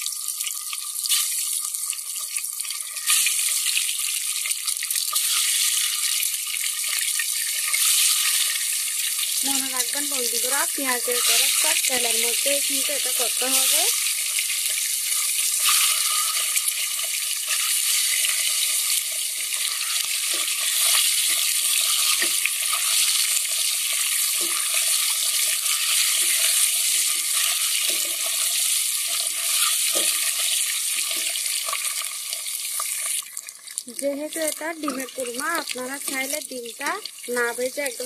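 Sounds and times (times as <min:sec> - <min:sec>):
eggs sizzling in hot oil: 0:00.0 - 0:38.0.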